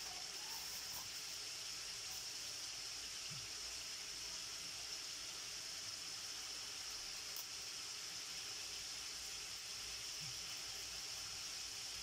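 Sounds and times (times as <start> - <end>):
meat sizzling in sauce: 0.0 - 12.0.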